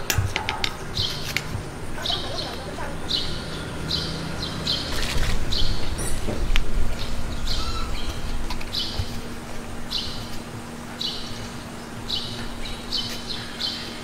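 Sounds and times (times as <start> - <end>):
low rumble: 0.0 - 13.9
bird chirping: 0.0 - 14.0.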